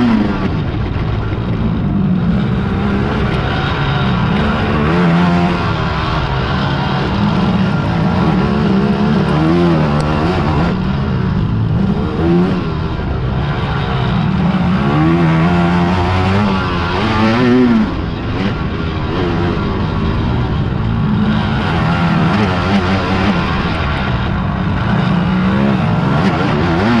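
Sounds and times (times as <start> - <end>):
quad engines racing: 0.0 - 27.0.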